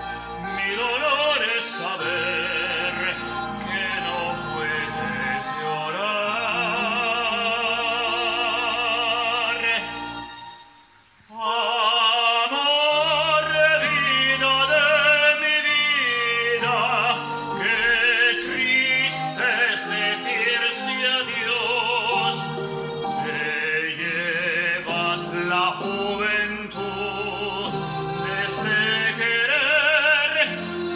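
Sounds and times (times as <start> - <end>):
man singing operatically: 0.0 - 10.3, 11.3 - 30.9.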